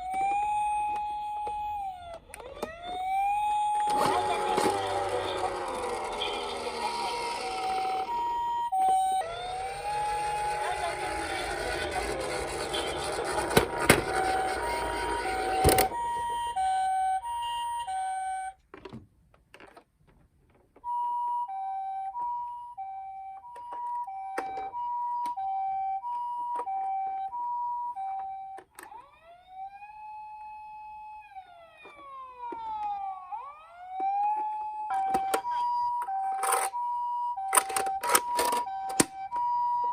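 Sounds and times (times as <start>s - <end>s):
toy ambulance siren: 0.0s - 18.6s, 20.8s - 39.9s.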